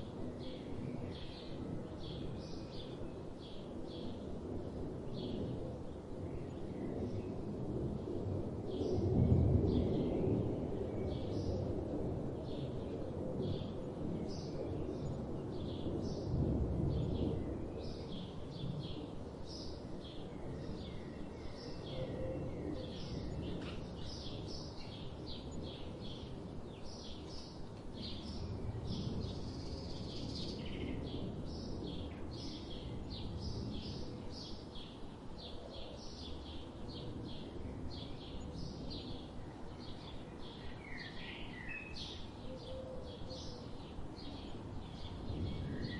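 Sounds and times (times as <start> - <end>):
low rumbling background noise: 0.0 - 45.9.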